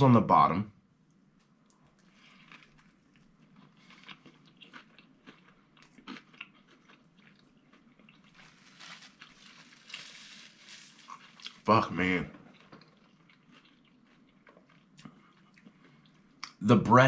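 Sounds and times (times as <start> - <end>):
person chewing crispy food: 1.6 - 16.6.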